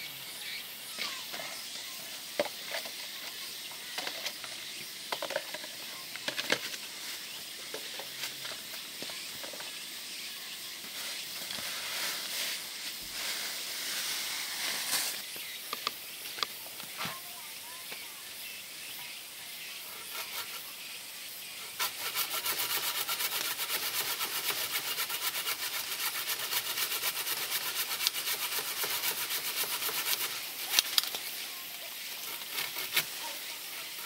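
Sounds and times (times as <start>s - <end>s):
high hiss of insects: 0.0s - 34.0s.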